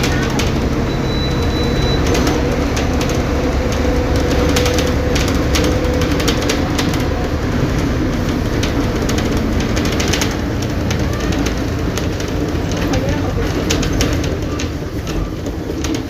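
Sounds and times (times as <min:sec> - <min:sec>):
bus body rattling: 0:00.0 - 0:16.0
bus diesel engine droning: 0:00.0 - 0:16.0.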